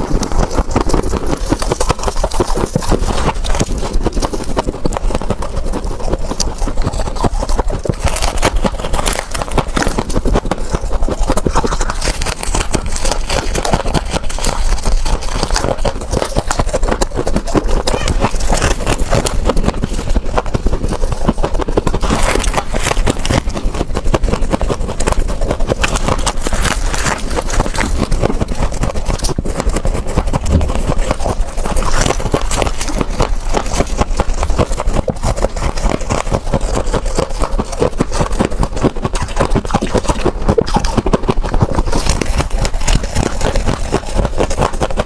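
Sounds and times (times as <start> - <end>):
crunching and chewing ice: 0.0 - 45.0.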